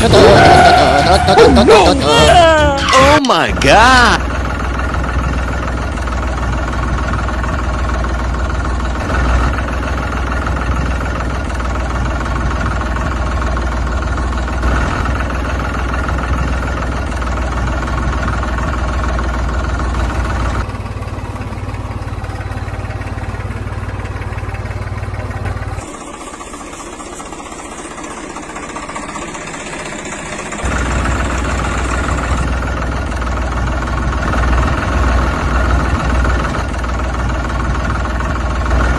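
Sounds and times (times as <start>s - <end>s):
tractor engine rumbling: 0.0s - 38.9s.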